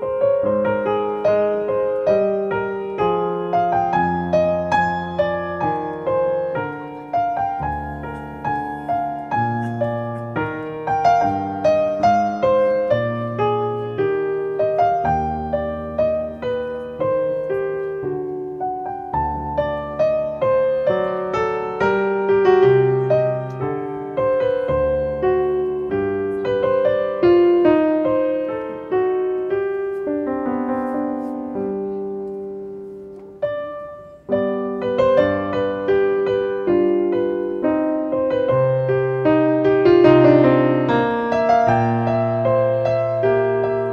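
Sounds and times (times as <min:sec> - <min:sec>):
solo piano melody: 0:00.0 - 0:43.9.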